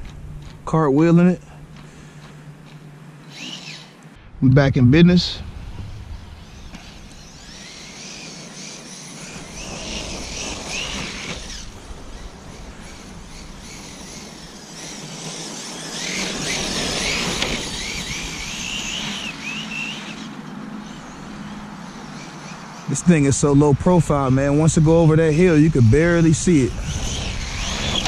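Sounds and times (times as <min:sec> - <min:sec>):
rc car motor whining: 0:01.7 - 0:04.1, 0:05.9 - 0:28.0.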